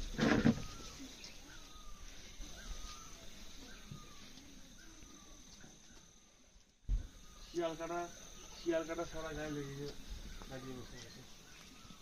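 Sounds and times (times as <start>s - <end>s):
high-pitched insect hum: 0.0s - 12.0s.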